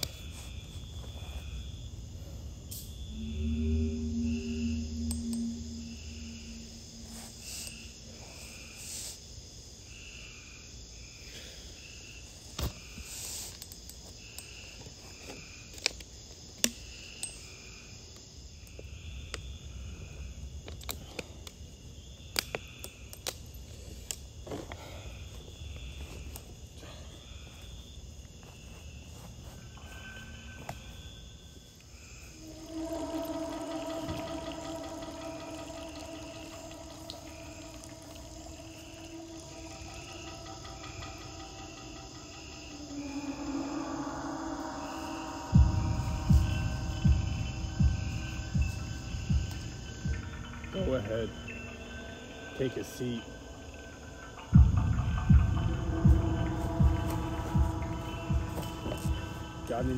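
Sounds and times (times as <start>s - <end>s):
crickets chirping: 0.0s - 59.9s
high insect trill: 0.0s - 59.9s.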